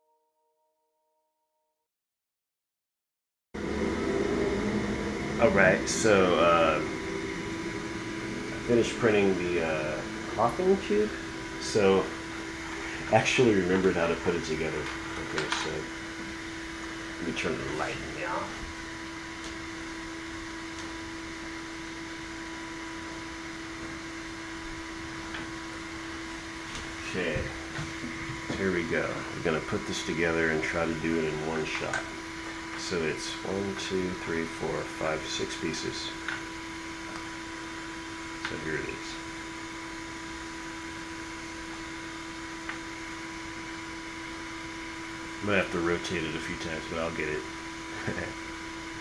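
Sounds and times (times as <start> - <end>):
high whine: 3.6 - 49.0
machine hum: 3.6 - 49.0.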